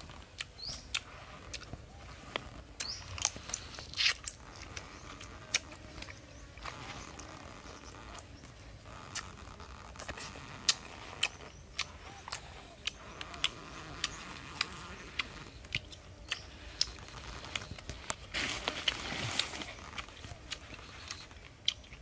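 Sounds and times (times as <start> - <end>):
person chewing chicken: 0.0 - 6.2, 10.0 - 22.0.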